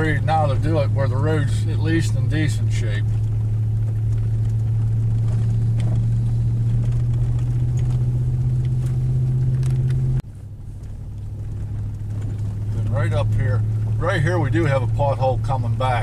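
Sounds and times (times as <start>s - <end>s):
car engine and tyres drone: 0.0s - 16.0s.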